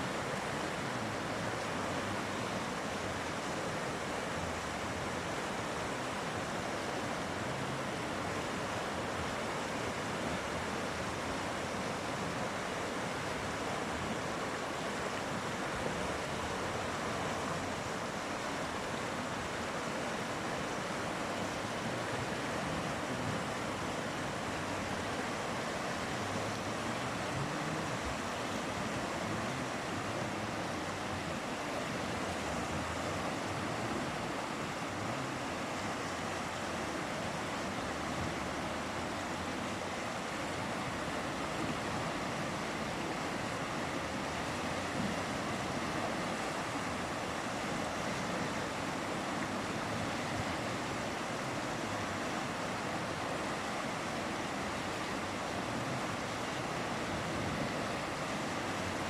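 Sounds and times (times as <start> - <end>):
river rushing over its bed: 0.0 - 59.0.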